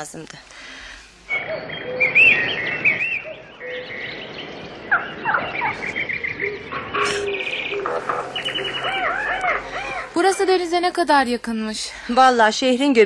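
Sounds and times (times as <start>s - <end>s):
birds chirping: 0.5s - 12.1s.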